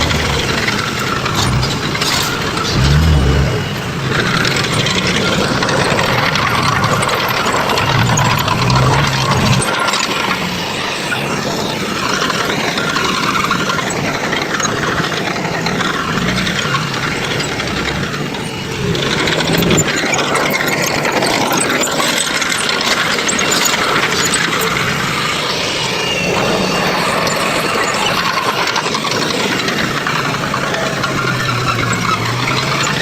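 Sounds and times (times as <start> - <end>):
diesel engine running: 0.0 - 21.8, 23.0 - 33.0
machinery rattling and clanking: 0.0 - 33.0.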